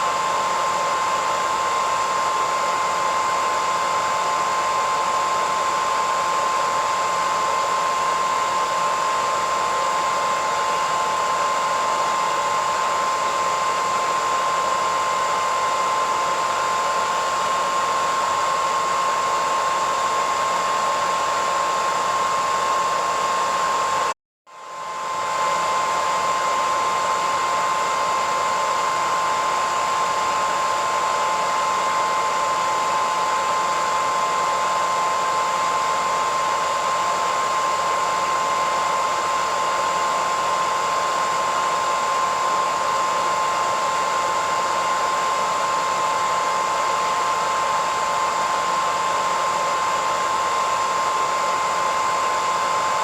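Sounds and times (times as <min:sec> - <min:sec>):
hair dryer whooshing and whining: 0:00.0 - 0:53.0.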